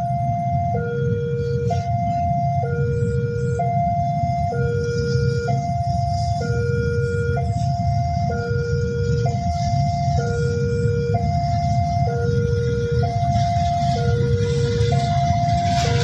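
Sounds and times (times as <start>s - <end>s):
level crossing two-tone alarm: 0.0s - 16.0s
steady low rumble: 0.0s - 16.0s.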